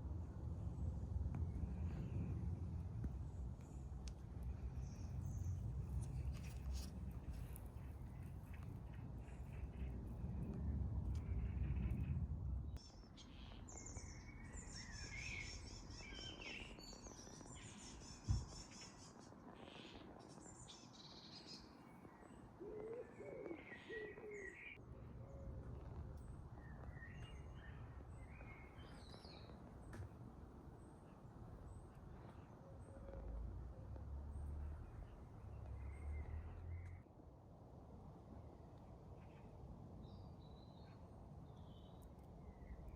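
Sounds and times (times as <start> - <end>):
low rumble of wind or handling: 0.0 - 42.9
garden birds singing: 3.2 - 37.0, 39.2 - 42.9.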